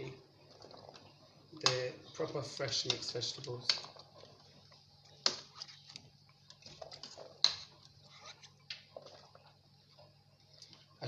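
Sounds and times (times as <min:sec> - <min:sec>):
low steady hum: 0:00.0 - 0:11.0
clicks and knocks around a pot: 0:00.5 - 0:09.4.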